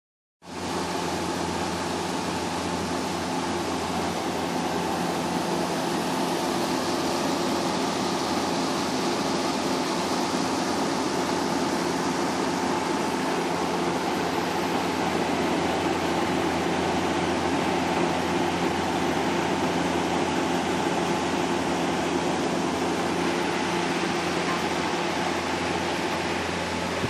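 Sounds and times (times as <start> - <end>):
humidifier blower rushing air: 0.4 - 27.0
constant hum: 0.5 - 27.0.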